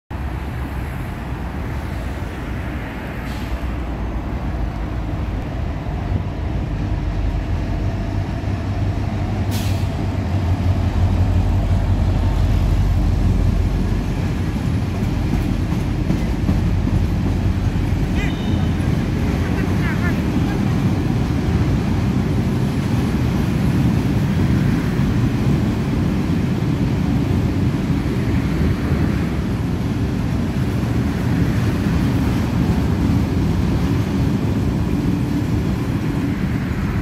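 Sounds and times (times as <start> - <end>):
freight train rumbling past: 0.1 - 37.0.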